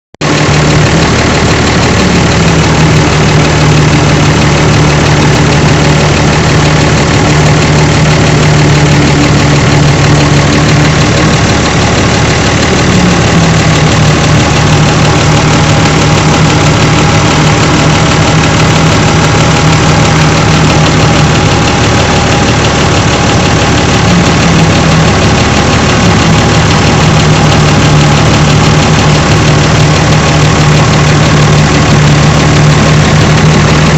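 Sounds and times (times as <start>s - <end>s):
truck engine idling: 0.2s - 33.9s.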